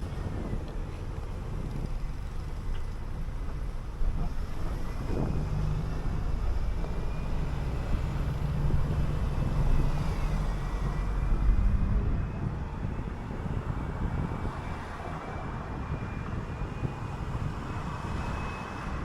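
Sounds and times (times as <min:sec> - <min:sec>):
bus engine humming: 0:00.0 - 0:19.0.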